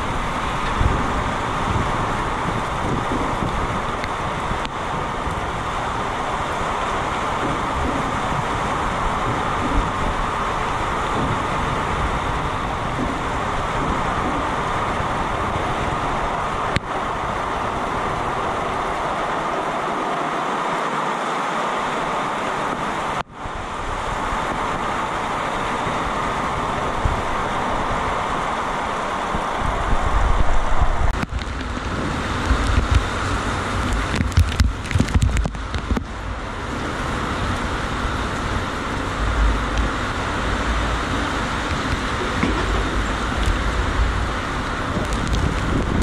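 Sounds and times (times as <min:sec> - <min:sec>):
heavy rain pouring: 0:00.0 - 0:46.0
wind gusts buffeting microphone: 0:00.0 - 0:46.0.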